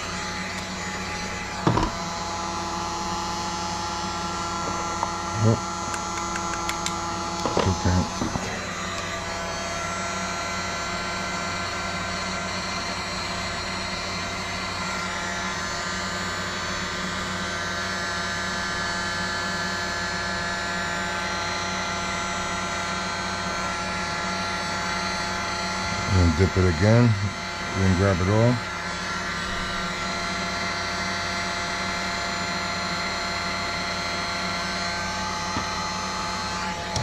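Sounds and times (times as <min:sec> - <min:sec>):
heat gun fan humming: 0:00.0 - 0:37.0.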